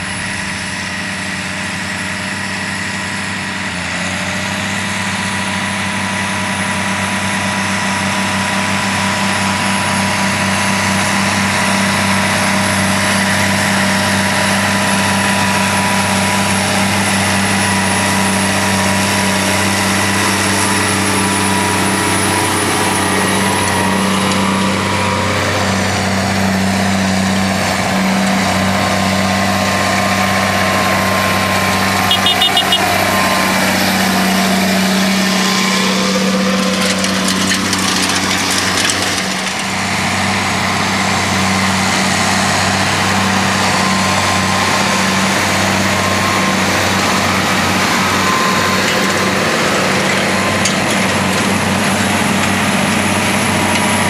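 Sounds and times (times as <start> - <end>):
tractor diesel engines droning: 0.0 - 54.0.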